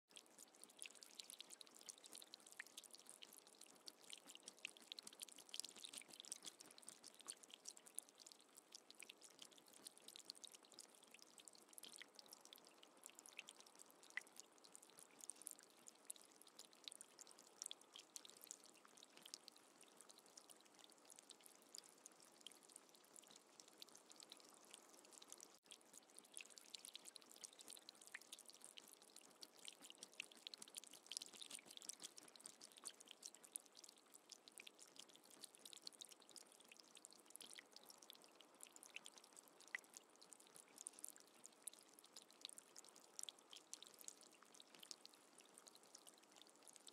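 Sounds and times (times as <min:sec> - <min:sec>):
light rain pattering into puddle: 0:00.0 - 0:46.9.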